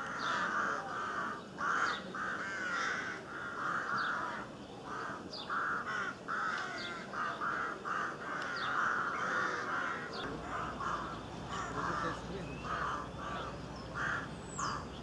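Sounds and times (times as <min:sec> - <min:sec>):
birds harsh calls: 0:00.0 - 0:15.0.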